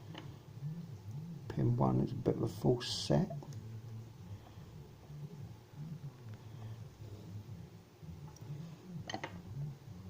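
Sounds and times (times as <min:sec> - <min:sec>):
low uneven hum: 0:00.0 - 0:10.0.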